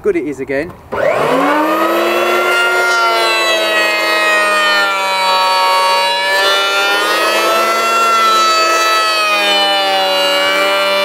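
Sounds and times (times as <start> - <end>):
power planer motor whine: 0.9 - 11.0.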